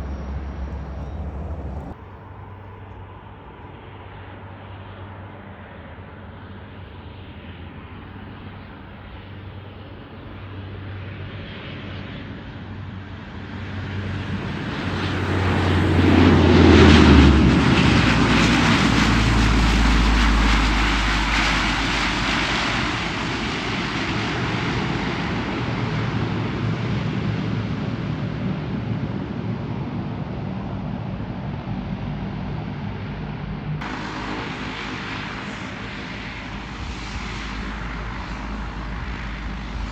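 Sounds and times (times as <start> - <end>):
airliner engine drone passing: 0.0 - 39.9.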